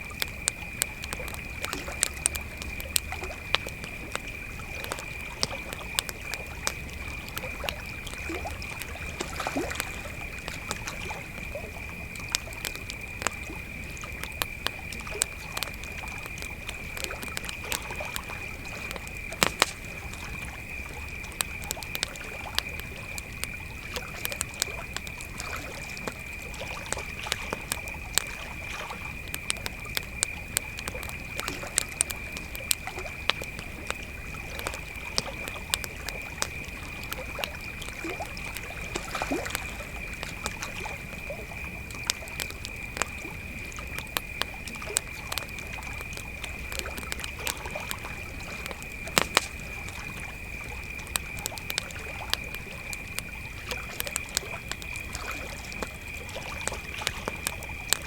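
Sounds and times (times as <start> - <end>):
campfire crackling and popping: 0.0 - 58.0
crickets trilling: 0.0 - 58.0.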